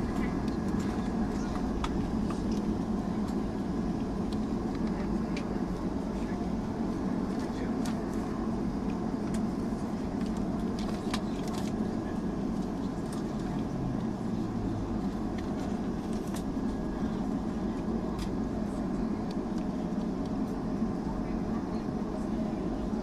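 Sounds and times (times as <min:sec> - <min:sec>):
jet engines idling rumble: 0:00.0 - 0:23.0.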